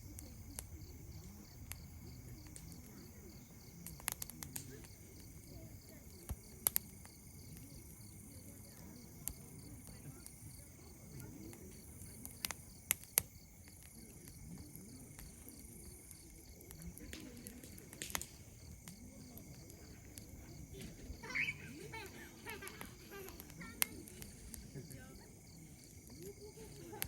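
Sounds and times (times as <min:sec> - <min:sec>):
campfire wood crackling: 0:00.0 - 0:27.0
distant voices murmuring: 0:00.0 - 0:27.0
insects chirping: 0:00.0 - 0:27.0
sharp pops of fire: 0:00.0 - 0:27.0.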